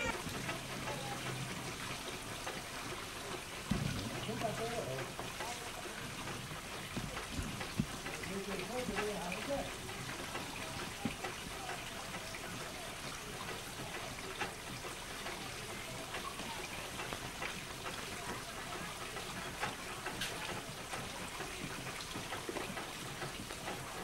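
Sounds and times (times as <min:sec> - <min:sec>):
faint voices: 0:00.0 - 0:02.2, 0:02.8 - 0:24.0
running water rushing: 0:00.0 - 0:24.0.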